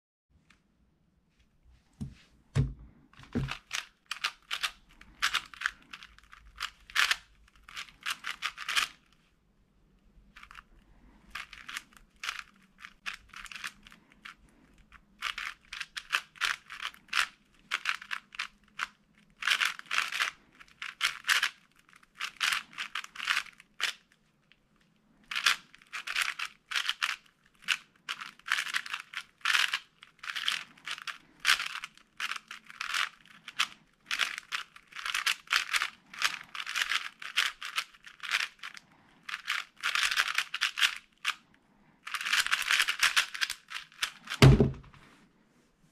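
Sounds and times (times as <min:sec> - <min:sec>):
puzzle cube plastic clicking: 0:03.2 - 0:09.2, 0:10.3 - 0:24.1, 0:25.2 - 0:41.4, 0:42.0 - 0:44.9.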